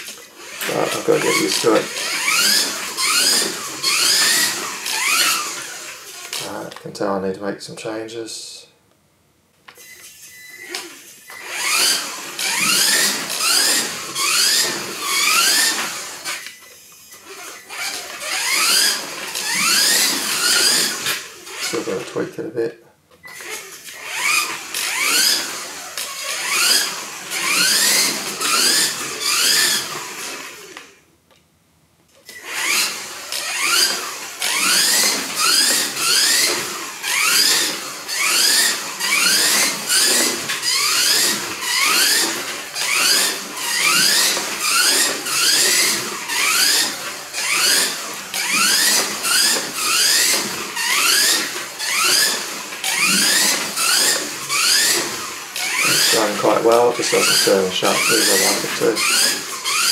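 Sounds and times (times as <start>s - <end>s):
toy car electric motor whining: 0.0s - 6.8s, 9.7s - 22.2s, 23.2s - 31.0s, 32.2s - 59.9s.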